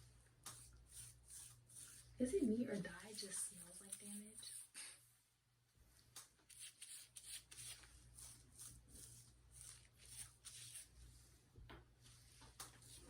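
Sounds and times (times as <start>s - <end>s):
brushing hair dye into hair: 0.5s - 4.8s, 6.5s - 13.0s.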